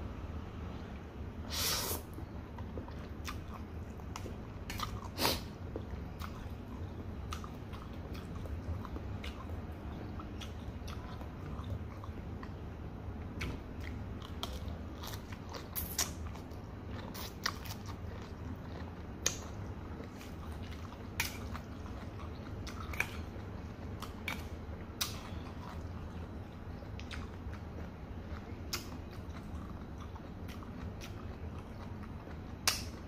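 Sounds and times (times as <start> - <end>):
steady low hum: 0.0 - 33.0
chewing and mouth sounds: 2.1 - 33.0.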